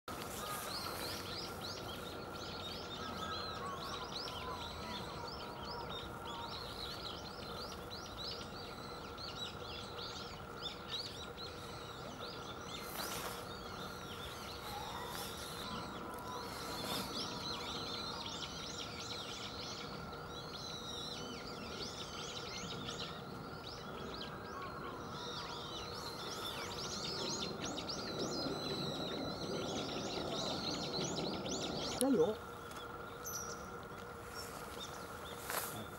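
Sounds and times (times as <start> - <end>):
small birds chirping: 0.0 - 35.9
faint continuous hum: 0.1 - 35.9.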